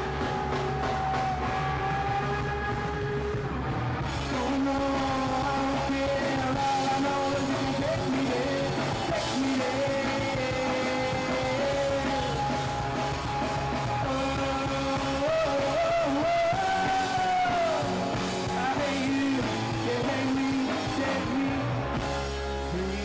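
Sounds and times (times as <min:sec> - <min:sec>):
electric guitars: 0:00.0 - 0:23.0
man singing: 0:00.0 - 0:23.0.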